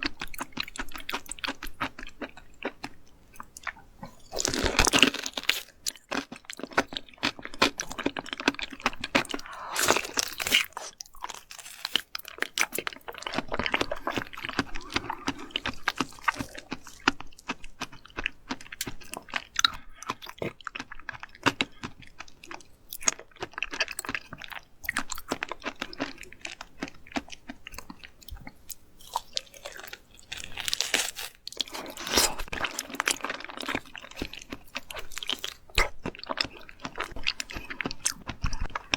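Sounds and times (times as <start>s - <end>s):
crunchy wet chewing: 0.0s - 38.9s.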